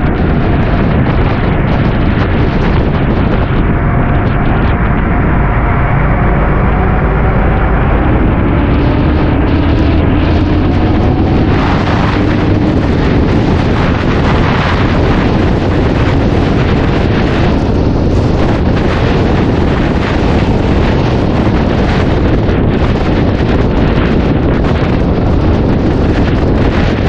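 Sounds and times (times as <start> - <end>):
motorcycle engine: 0.0 - 27.0
wind rushing over microphone: 0.0 - 27.0.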